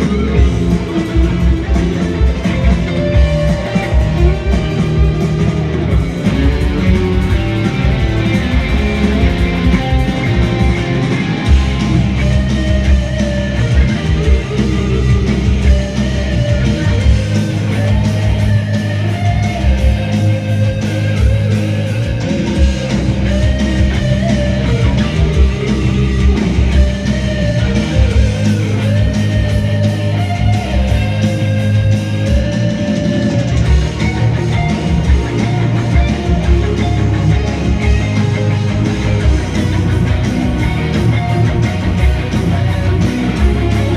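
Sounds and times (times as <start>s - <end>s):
drums with cymbal hits: 0.0s - 43.9s
electric guitar melody: 0.0s - 43.9s
heavy rock music: 0.0s - 43.9s.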